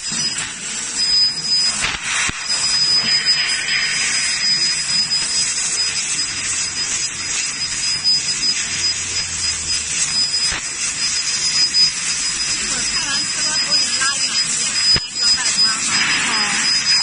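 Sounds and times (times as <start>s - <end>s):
gas hissing from cutting head: 0.0s - 17.0s
thin high whine: 0.0s - 17.0s.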